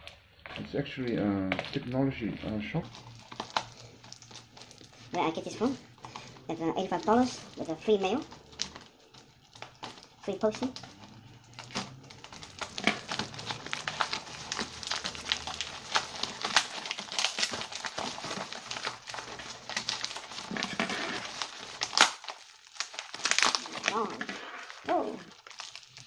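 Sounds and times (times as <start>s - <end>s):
plastic packaging crinkling: 0.0s - 26.0s.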